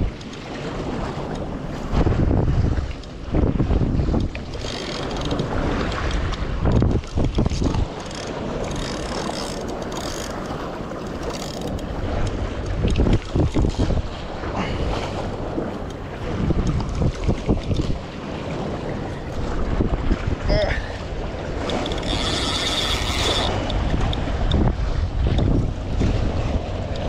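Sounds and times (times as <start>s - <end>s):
seawater washing against rocks: 0.0s - 27.0s
wind buffeting microphone: 0.0s - 27.0s.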